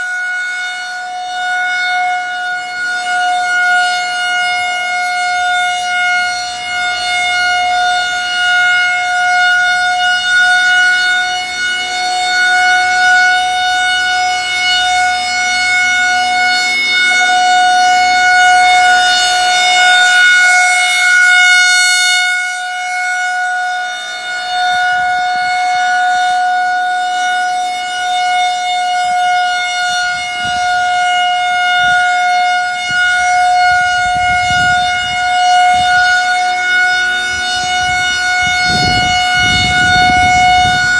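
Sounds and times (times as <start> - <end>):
rotating siren single tone: 0.0 - 40.9.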